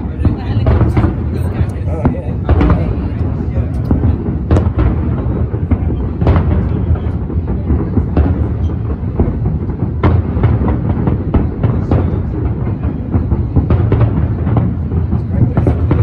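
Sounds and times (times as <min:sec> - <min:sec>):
distant fireworks booms: 0:00.0 - 0:16.0
sharp firework bangs: 0:00.0 - 0:16.0.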